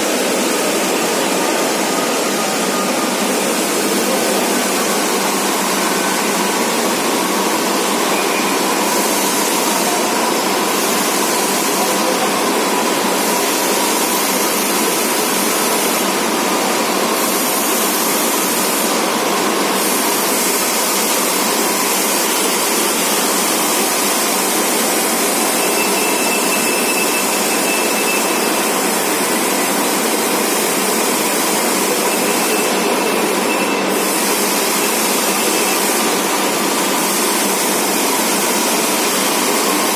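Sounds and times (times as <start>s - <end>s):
lathe running with faint whine: 0.0s - 39.9s.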